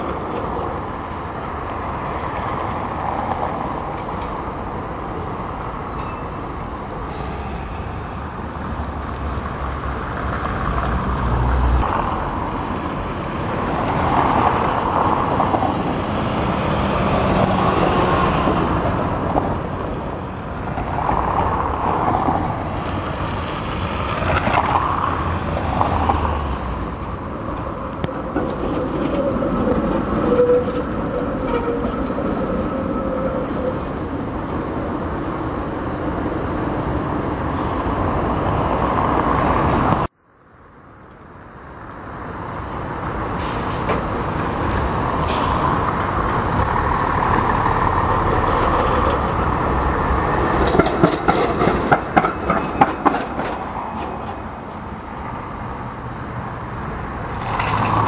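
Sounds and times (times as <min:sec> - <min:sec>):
trams passing: 0:00.0 - 0:40.1, 0:41.6 - 0:58.0
bus passing: 0:00.0 - 0:58.0.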